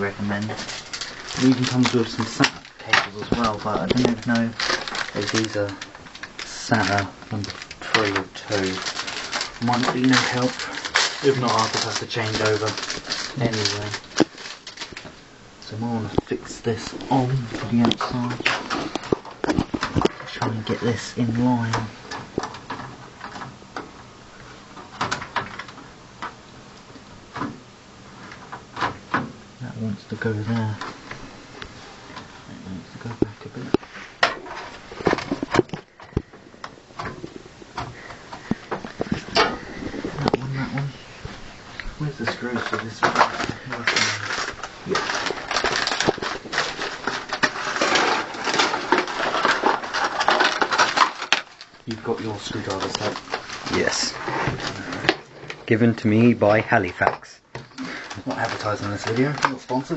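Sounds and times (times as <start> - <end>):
rummaging among computer parts: 0.0 - 24.0, 32.9 - 57.0, 57.6 - 59.9.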